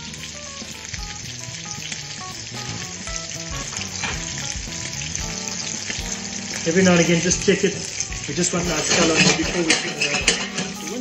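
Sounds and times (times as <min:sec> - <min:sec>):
steak sizzling in a frying pan: 0:00.0 - 0:11.0.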